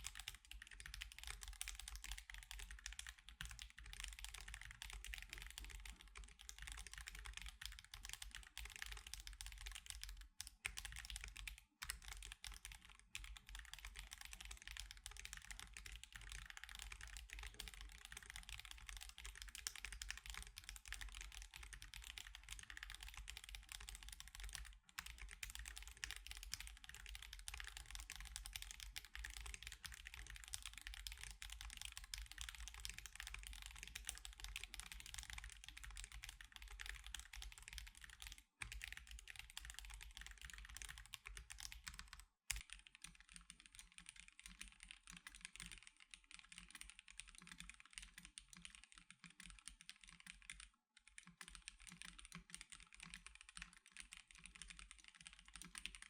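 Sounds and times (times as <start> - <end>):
fast mechanical keyboard typing: 0.0 - 56.0.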